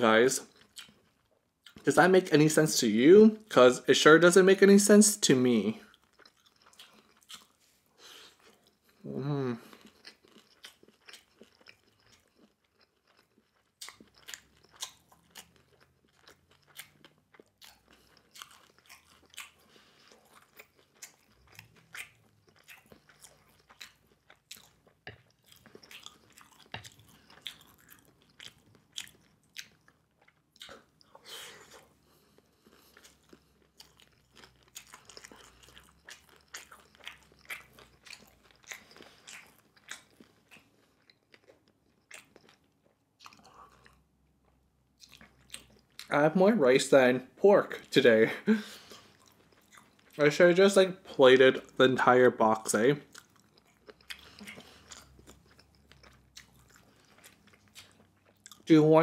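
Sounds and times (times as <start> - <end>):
chewing crunchy food: 0.0 - 1.9, 5.5 - 46.2, 47.7 - 58.8.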